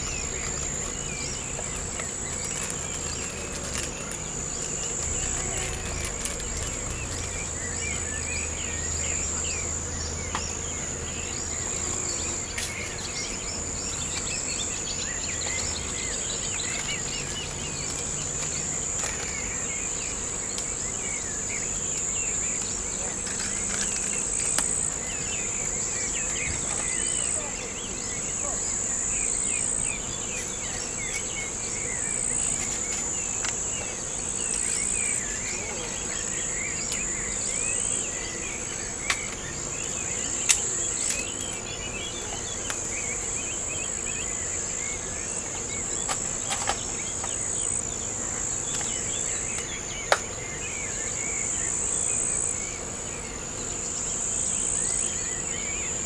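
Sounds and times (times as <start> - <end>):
crickets chorus: 0.0 - 56.0.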